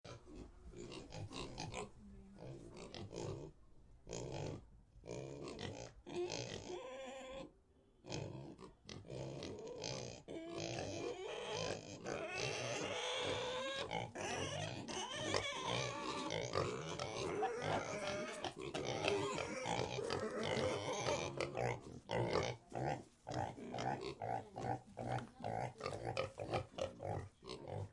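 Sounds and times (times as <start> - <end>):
pigs grunting and squealing: 0.1 - 27.9.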